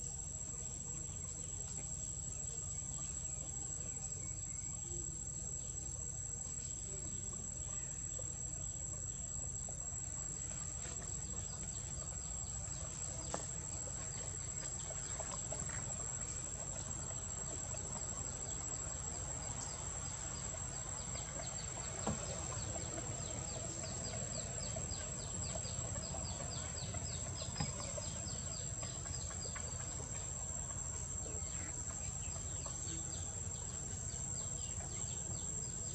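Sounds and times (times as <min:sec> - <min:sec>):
rapid ticking insect call: 0:00.0 - 0:35.9.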